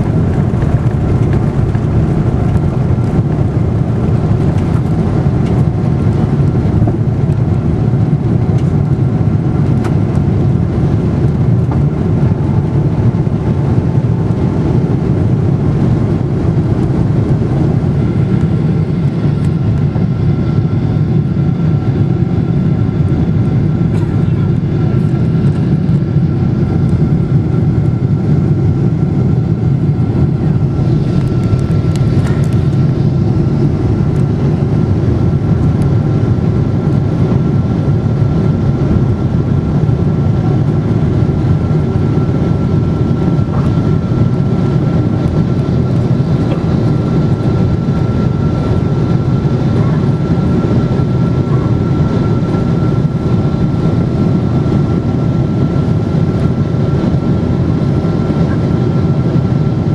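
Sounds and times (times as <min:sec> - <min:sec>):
aircraft cabin engine rush: 0:00.0 - 0:59.9.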